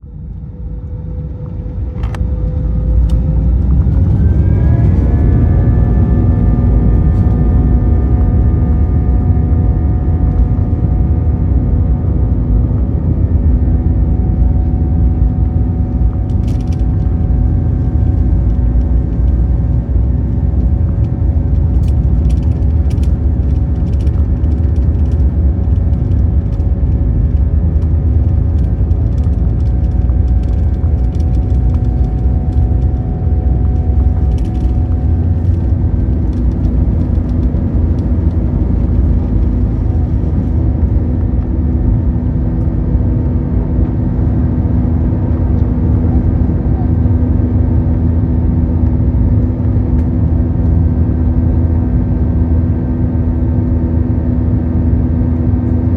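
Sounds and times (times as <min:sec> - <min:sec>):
jet engine rumble in cabin: 0:00.0 - 0:55.9.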